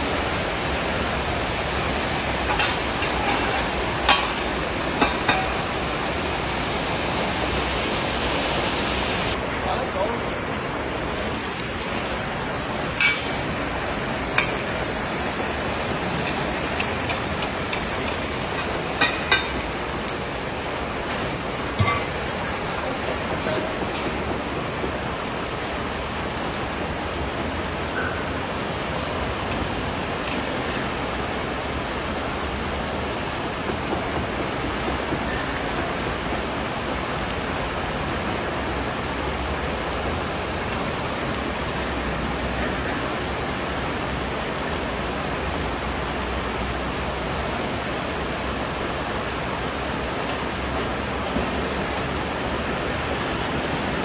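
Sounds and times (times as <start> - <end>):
food sizzling and bubbling in oil: 0.0 - 54.0.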